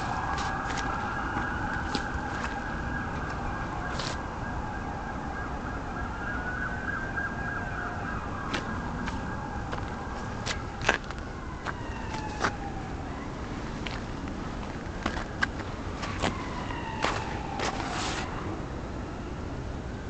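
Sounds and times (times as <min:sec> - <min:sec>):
siren wailing: 0:00.0 - 0:14.3, 0:16.0 - 0:20.0.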